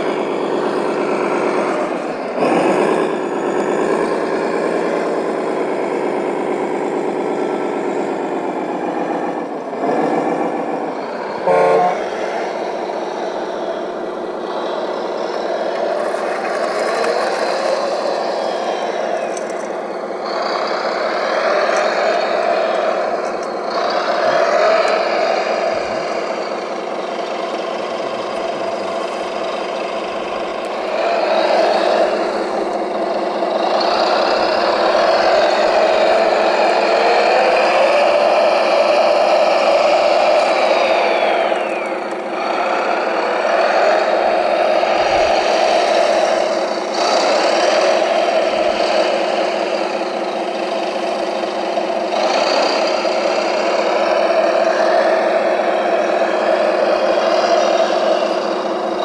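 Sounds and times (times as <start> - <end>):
toy vehicle motors whining: 0.0 - 59.0.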